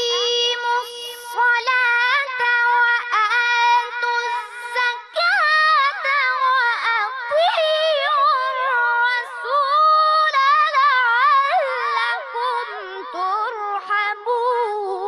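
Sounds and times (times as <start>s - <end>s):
boy reciting melodically: 0.0s - 15.0s.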